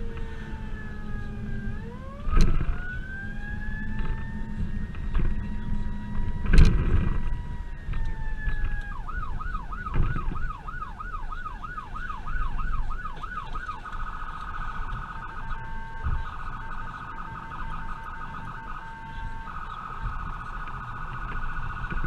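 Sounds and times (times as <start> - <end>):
electronic siren: 0.0 - 22.0
road rumble: 0.0 - 22.0.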